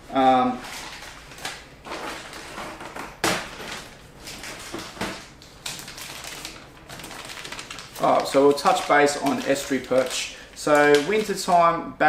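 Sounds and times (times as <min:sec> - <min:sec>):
plastic packets crinkling: 0:00.2 - 0:11.8.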